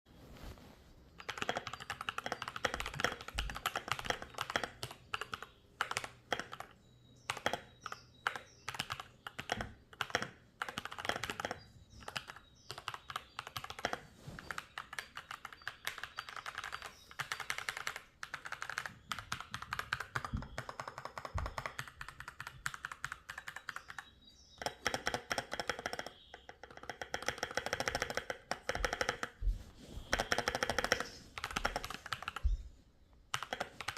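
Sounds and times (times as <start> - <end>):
mechanical keyboard typing: 1.2 - 29.4, 30.1 - 32.6, 33.3 - 33.9.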